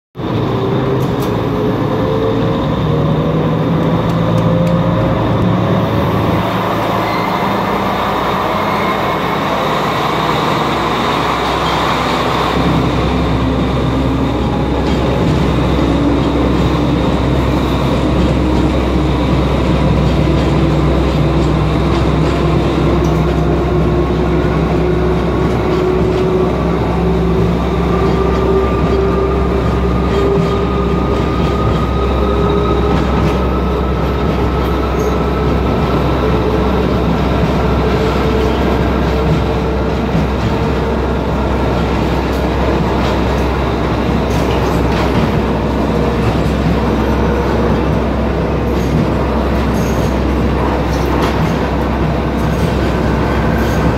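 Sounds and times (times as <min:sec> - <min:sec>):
train carriage rumbling and rattling: 0:00.2 - 0:53.9.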